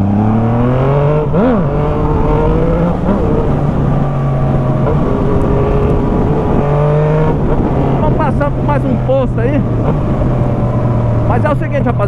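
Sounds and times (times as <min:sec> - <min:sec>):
motorcycle engine riding: 0:00.0 - 0:12.0.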